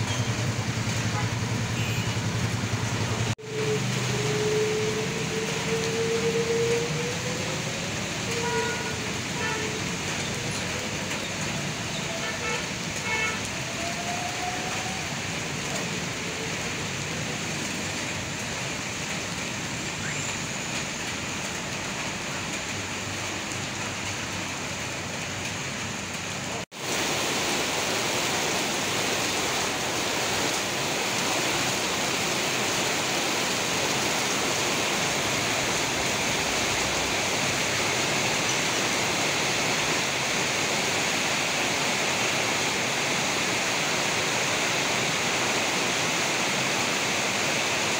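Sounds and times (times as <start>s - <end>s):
heavy rain hissing: 0.0s - 47.9s
traffic on wet road: 0.0s - 47.9s.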